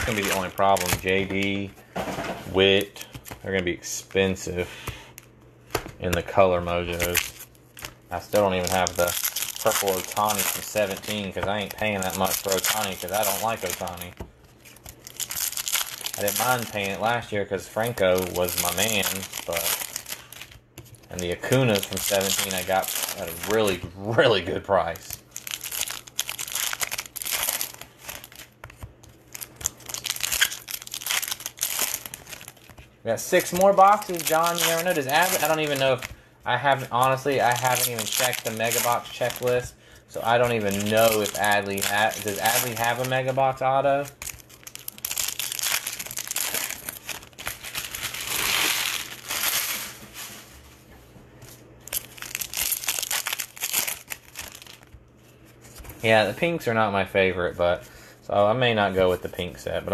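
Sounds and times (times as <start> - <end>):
foil wrapper crinkling: 0.0 - 1.7, 6.2 - 50.5, 51.8 - 55.0.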